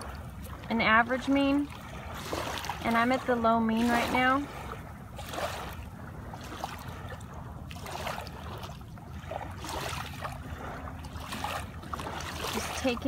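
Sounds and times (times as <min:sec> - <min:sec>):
steady low rumble: 0:00.0 - 0:13.0
water lapping on sand: 0:00.0 - 0:13.0.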